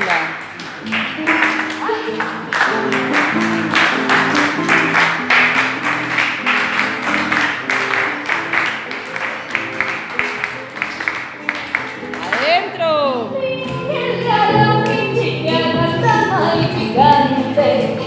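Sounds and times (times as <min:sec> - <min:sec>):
folk music with strummed guitar: 0:00.6 - 0:18.0.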